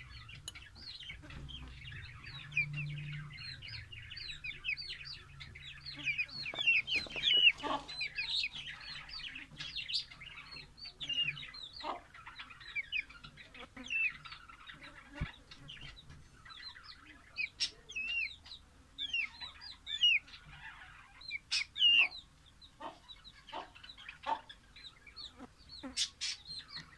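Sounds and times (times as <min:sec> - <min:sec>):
chicks peeping and clucking: 0:00.0 - 0:26.9.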